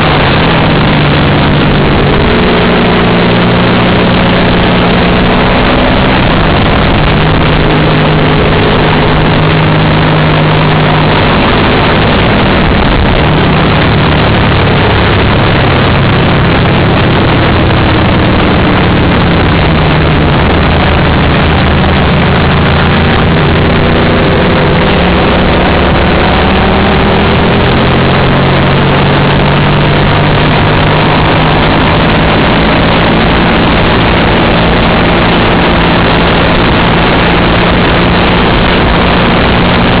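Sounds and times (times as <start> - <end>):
racing motorcycle engine: 0.0 - 40.0
wind noise rushing: 0.0 - 40.0.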